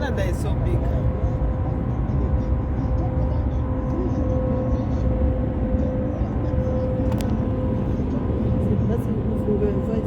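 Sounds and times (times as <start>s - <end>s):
car road rumble: 0.0s - 10.0s.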